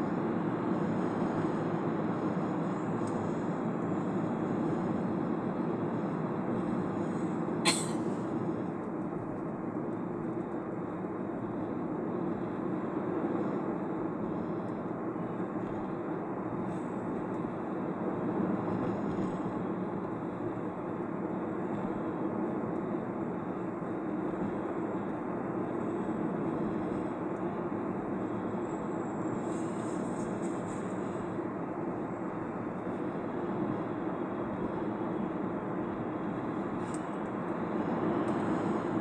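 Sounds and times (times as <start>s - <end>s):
car road and tyre noise: 0.0s - 39.0s.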